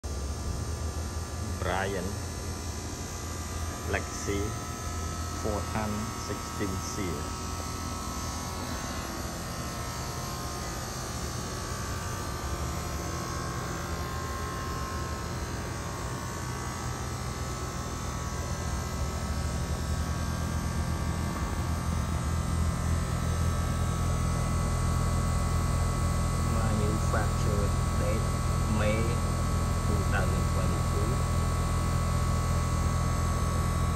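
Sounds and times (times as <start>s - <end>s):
air conditioner unit humming: 0.0s - 33.9s.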